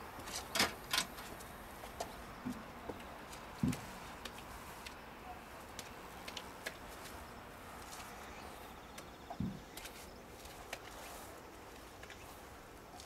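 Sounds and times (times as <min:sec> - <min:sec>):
outdoor hush: 0:00.0 - 0:13.0.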